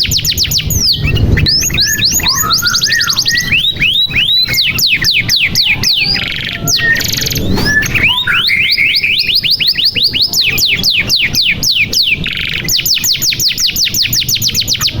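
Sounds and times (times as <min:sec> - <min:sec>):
canary buzzy trill: 0:00.0 - 0:15.0
canary singing: 0:00.0 - 0:15.0.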